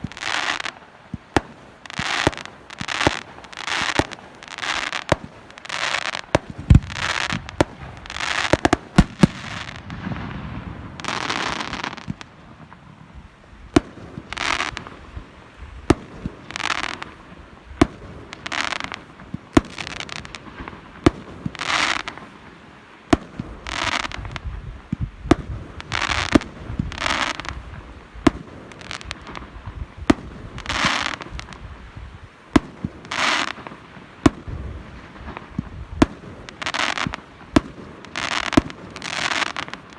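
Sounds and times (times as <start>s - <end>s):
fireworks bangs and cracks: 0.0s - 39.9s
fireworks hissing rush: 0.0s - 39.9s.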